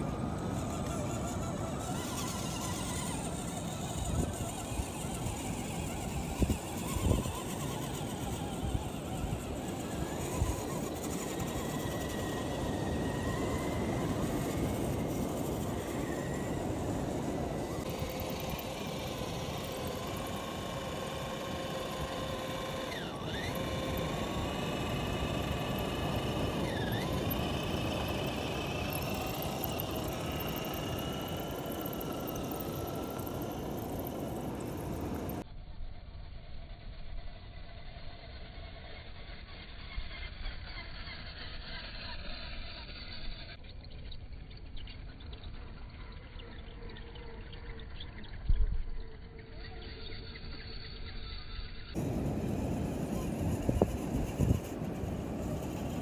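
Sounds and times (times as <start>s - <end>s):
rc car motors whining: 0.0s - 56.0s.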